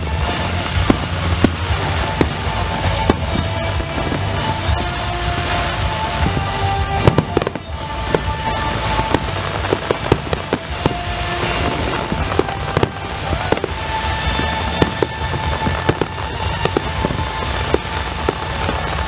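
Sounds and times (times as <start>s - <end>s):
fireworks bangs and pops: 0.0s - 19.0s
fireworks rumble and crackle: 0.0s - 19.0s
music playing: 0.0s - 19.0s.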